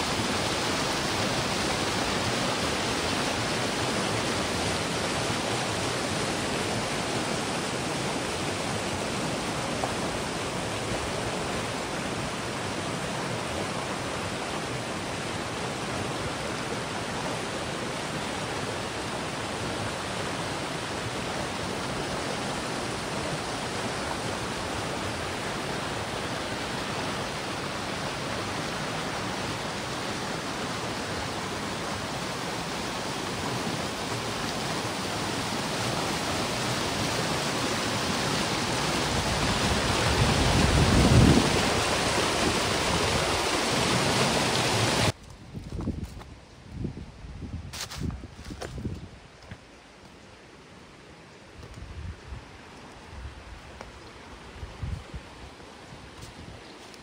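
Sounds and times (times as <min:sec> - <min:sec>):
creek water rushing over rocks: 0:00.0 - 0:45.9.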